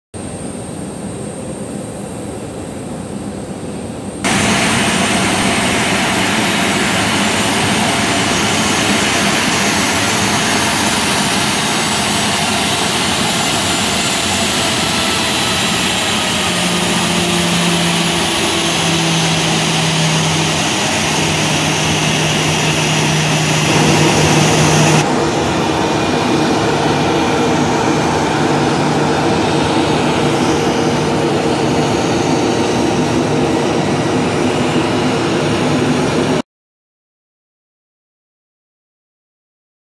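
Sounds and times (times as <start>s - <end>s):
jet engines idling: 0.2s - 36.4s.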